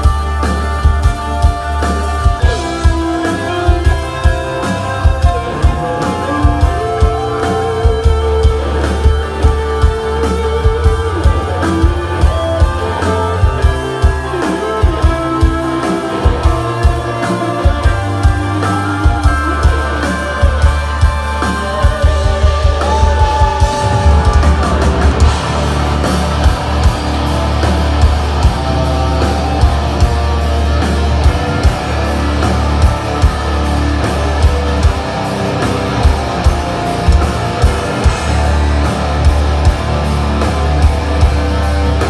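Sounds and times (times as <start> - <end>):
hard-hit drums: 0.0 - 42.0
metal band playing live: 0.0 - 42.0.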